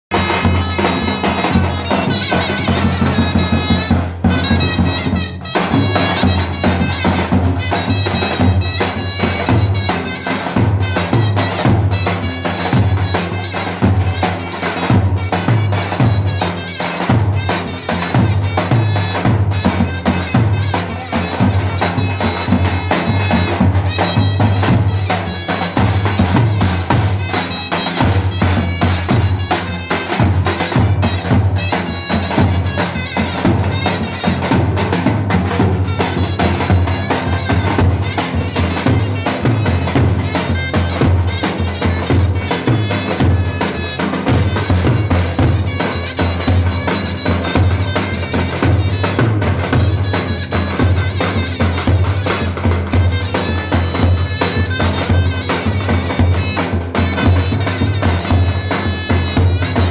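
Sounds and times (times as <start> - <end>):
reedy piercing pipe melody: 0.1 - 59.9.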